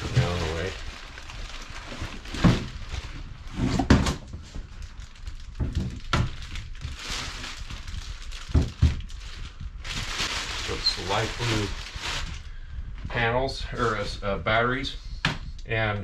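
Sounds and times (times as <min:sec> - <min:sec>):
plastic bag rustling: 0:00.0 - 0:14.2.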